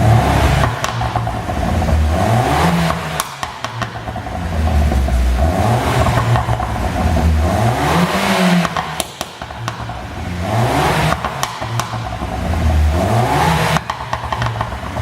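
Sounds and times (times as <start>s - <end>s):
car engine revving: 0.0s - 15.0s
exhaust pops and cracks: 0.0s - 15.0s.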